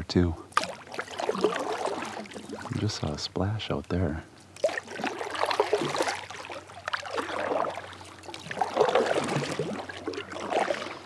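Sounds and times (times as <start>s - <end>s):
kayak paddle strokes in water: 0.5s - 3.2s, 4.6s - 11.0s
water dripping and splashing: 0.5s - 3.2s, 4.4s - 11.0s.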